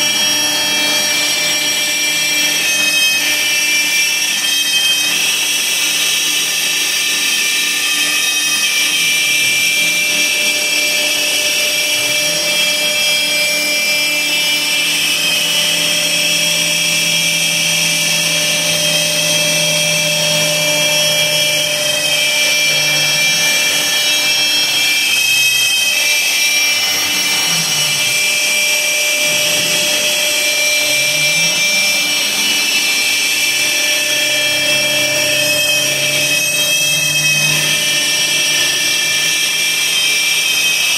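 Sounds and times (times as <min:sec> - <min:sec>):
router spindle whine: 0:00.0 - 0:40.9
rush of wood cutting: 0:00.0 - 0:40.9.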